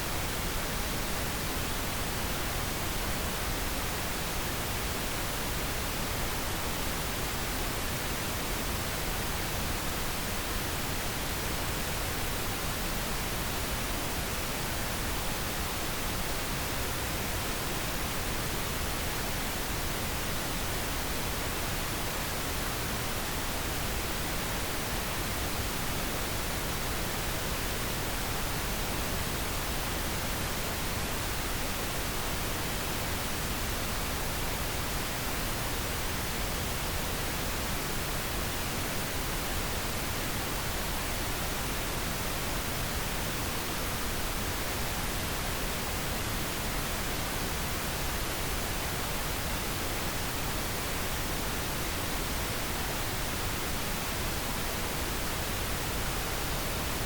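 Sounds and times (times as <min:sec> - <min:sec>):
pink noise hiss: 0:00.0 - 0:57.0.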